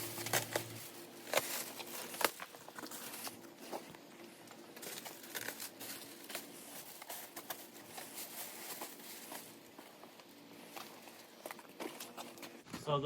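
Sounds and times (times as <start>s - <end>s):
plastic wrap crinkling: 0.0s - 12.6s.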